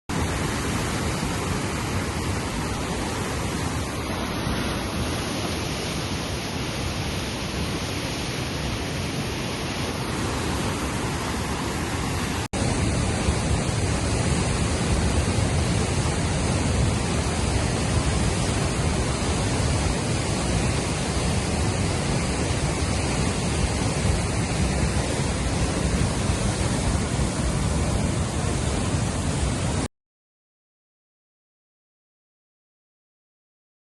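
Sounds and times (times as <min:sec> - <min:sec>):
floodwater rushing: 0:00.1 - 0:29.9.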